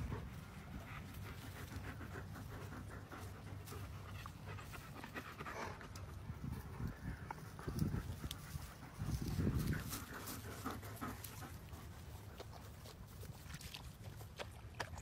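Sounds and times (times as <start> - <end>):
steady low rumble: 0.0 - 12.3
dog panting: 0.0 - 13.4.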